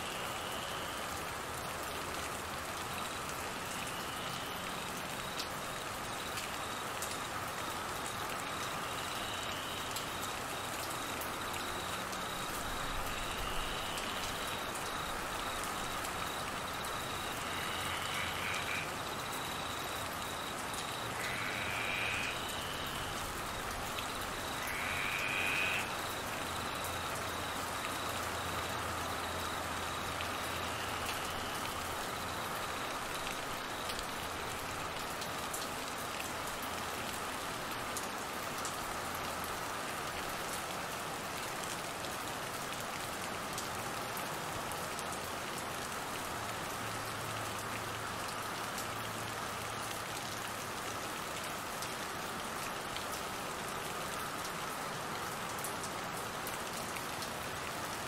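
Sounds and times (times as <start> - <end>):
steady rain on trees: 0.0 - 58.0.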